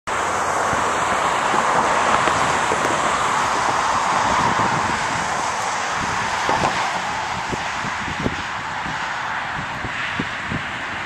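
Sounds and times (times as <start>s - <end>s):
distant jet engines roaring: 0.1s - 11.0s.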